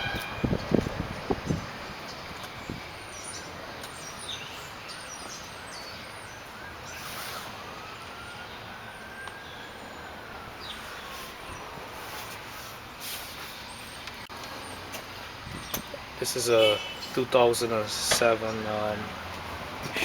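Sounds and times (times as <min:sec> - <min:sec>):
distant traffic noise: 0:00.0 - 0:20.0.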